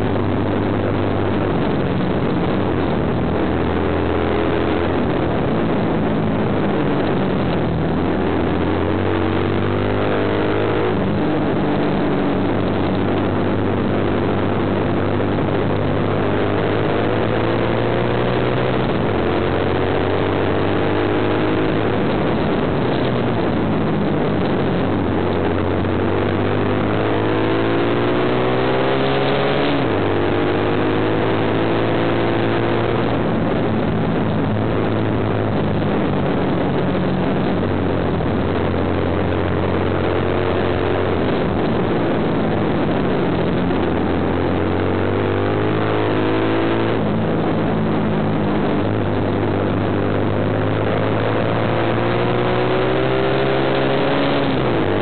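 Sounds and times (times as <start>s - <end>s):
motorcycle engine accelerating: 0.0s - 55.0s
wind rushing over microphone: 0.0s - 55.0s.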